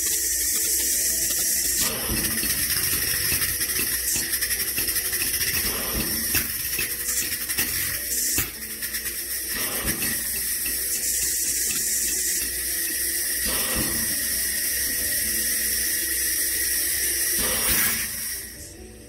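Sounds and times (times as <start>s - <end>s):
pressurized gas hissing: 0.0s - 18.9s.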